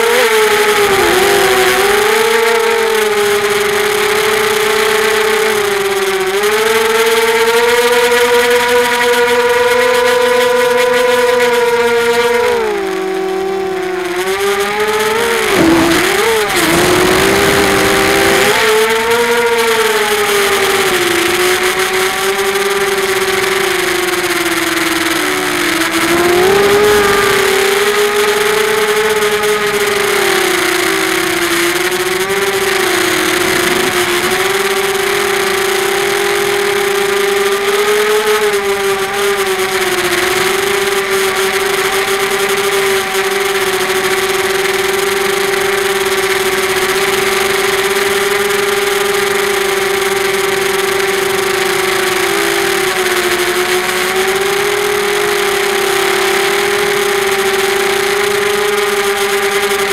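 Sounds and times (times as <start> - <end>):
quadcopter motors buzzing whine: 0.0 - 59.9.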